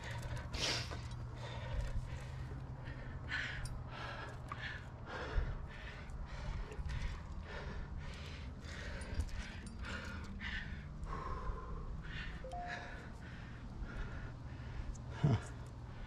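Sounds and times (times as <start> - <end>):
person breathing hard: 0.0 - 16.0
steady low rumble: 0.0 - 16.0.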